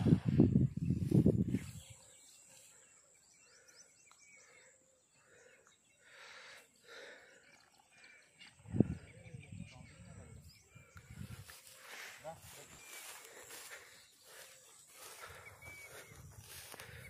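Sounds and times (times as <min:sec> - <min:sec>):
small birds chirping: 0:00.3 - 0:17.0.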